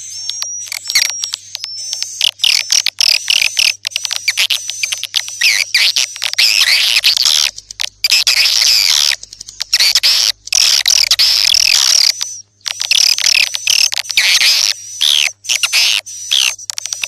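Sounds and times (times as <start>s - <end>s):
swiftlets chirping and twittering: 0.0s - 17.0s.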